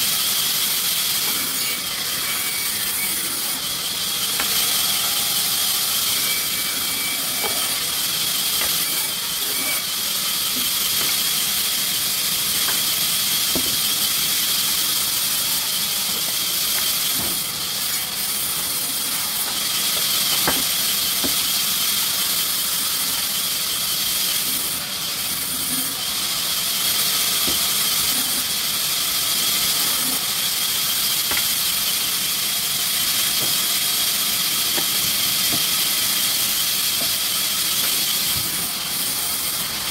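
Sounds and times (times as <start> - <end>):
sawmill machinery hiss: 0.0 - 39.9.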